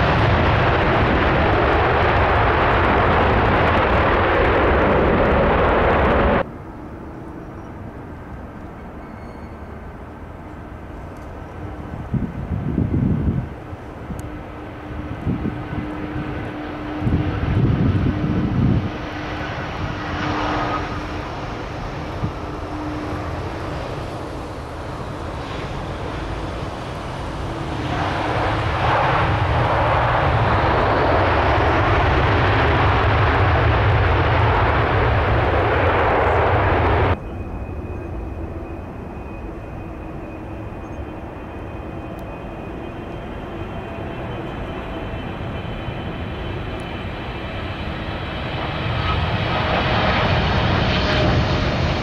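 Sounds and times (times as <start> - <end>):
jet engines roaring: 0.0 - 52.0.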